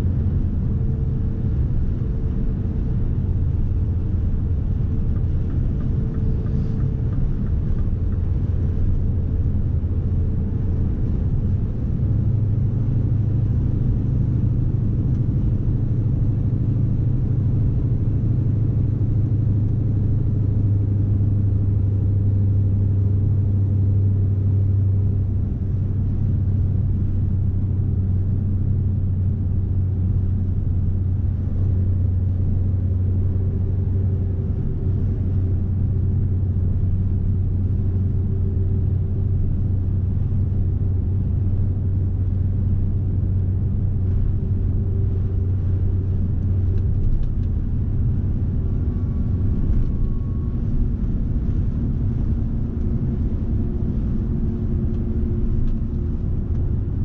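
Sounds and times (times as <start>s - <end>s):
road rumble: 0.0s - 57.0s
truck diesel engine droning: 0.0s - 57.0s.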